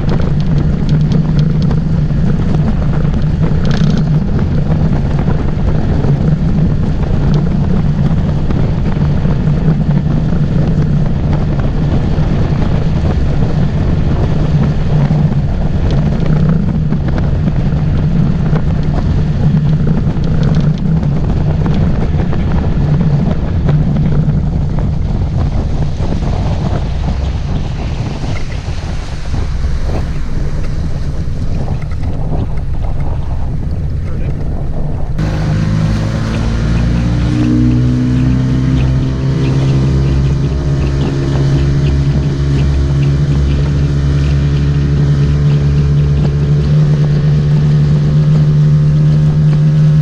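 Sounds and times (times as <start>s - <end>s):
motorboat engine humming: 0.0s - 50.0s
wind noise on microphone: 0.0s - 50.0s.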